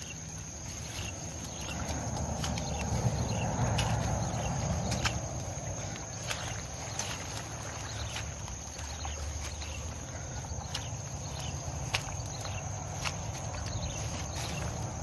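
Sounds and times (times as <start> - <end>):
rustling of leaves and stems: 0.0 - 15.0
twigs snapping underfoot: 0.8 - 15.0.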